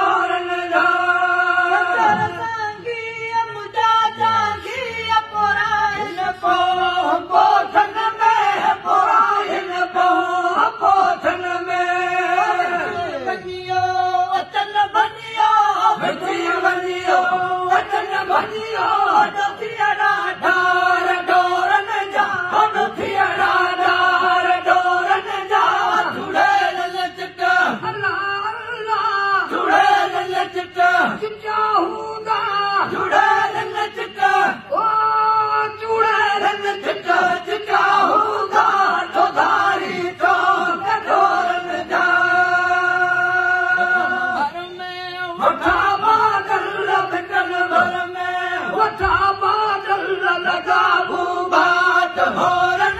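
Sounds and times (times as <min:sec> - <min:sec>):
men singing devotional song: 0:00.0 - 0:52.9.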